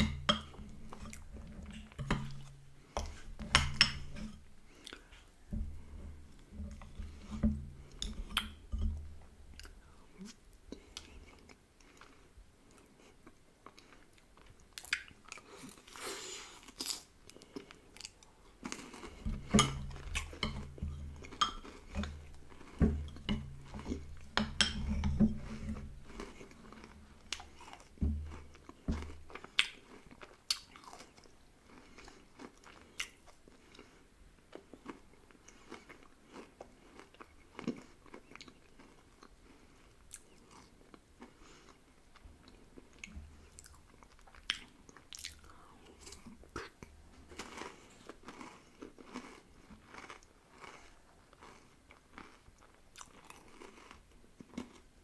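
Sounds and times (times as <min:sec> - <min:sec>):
mouth smacking and chewing: 0:04.7 - 0:05.5, 0:09.5 - 0:24.8, 0:25.4 - 0:55.0.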